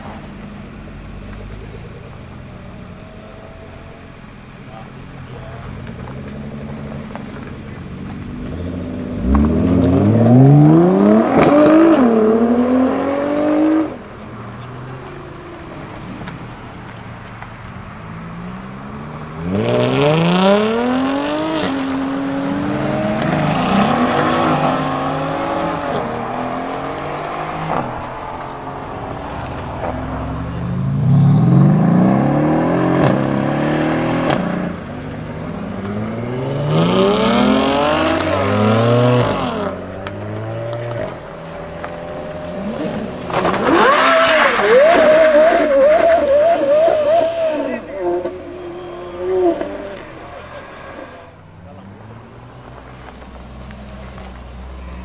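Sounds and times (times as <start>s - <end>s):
car engines revving and accelerating: 0.0s - 55.0s.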